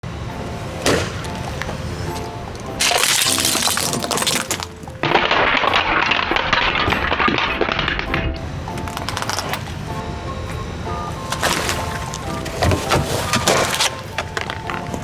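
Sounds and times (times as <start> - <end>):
background music: 0.0 - 15.0
objects crunching under a car: 0.4 - 15.0.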